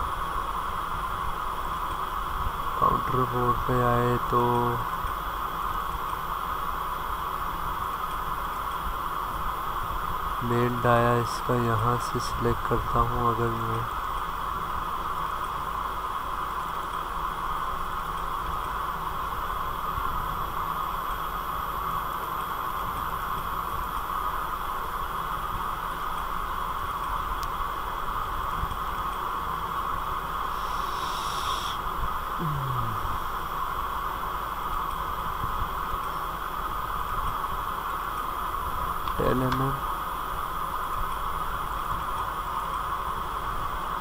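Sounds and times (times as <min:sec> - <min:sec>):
faint low hum: 0:00.0 - 0:42.5
background hiss: 0:00.0 - 0:44.0.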